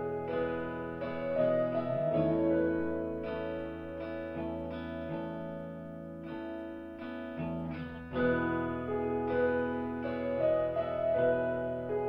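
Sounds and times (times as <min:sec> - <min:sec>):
background guitar music: 0:00.0 - 0:12.0.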